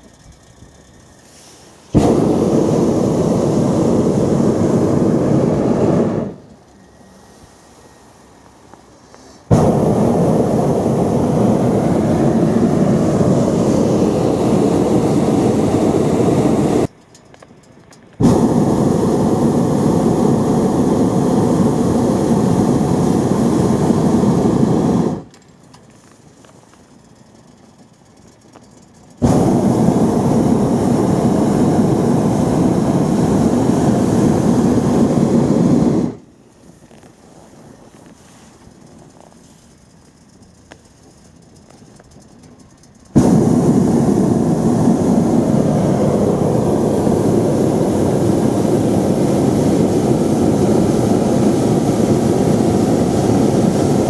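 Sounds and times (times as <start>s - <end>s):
propane burner firing: 0.9s - 26.6s, 28.5s - 36.3s, 41.6s - 54.0s.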